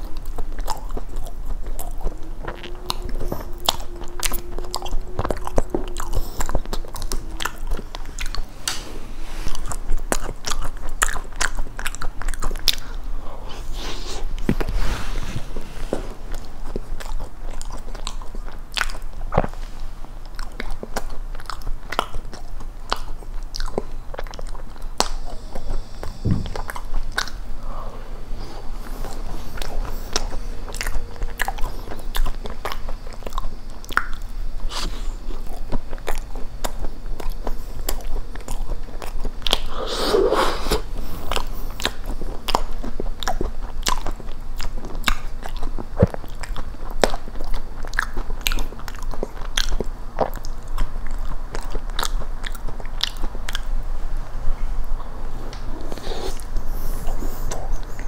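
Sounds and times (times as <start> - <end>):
biting and chewing cheesecake: 0.0 - 8.8, 9.5 - 58.0.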